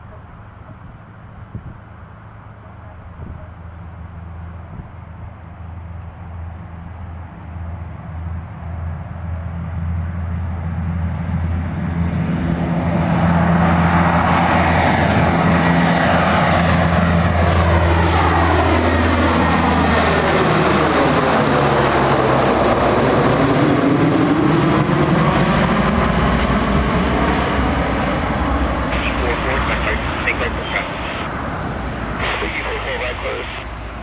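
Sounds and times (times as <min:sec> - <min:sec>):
jet aircraft flying low past: 0:00.0 - 0:34.0.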